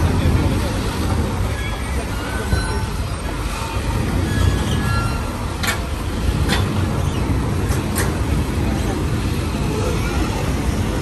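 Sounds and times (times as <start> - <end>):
vehicle traffic rumble: 0.0 - 11.0.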